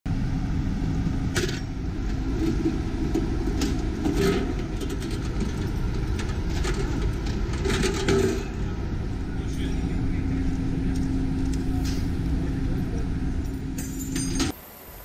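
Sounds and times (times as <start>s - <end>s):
low rumble: 0.1s - 14.4s.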